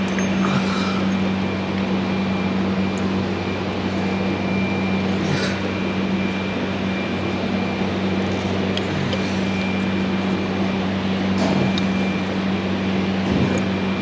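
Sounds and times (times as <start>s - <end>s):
heater fan blowing: 0.0s - 14.0s.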